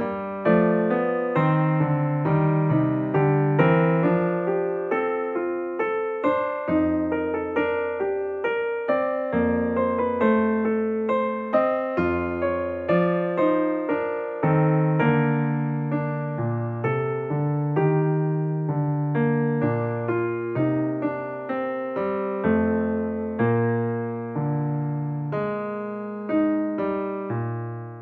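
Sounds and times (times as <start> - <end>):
piano melody: 0.0 - 28.0.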